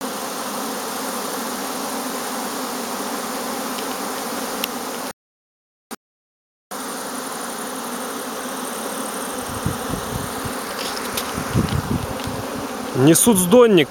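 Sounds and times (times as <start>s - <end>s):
honeybees buzzing: 0.0s - 5.2s, 6.7s - 13.9s.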